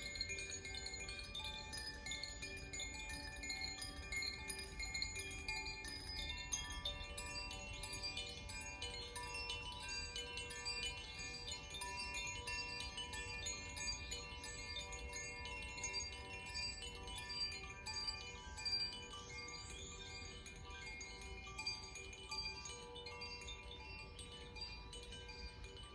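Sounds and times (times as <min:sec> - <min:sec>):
wind chimes ringing: 0:00.0 - 0:25.9.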